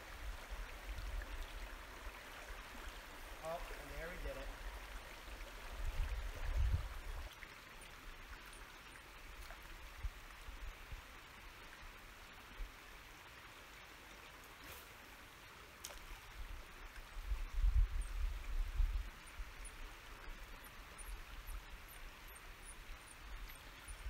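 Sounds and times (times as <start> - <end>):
river flowing: 0.0 - 17.3, 19.0 - 24.0.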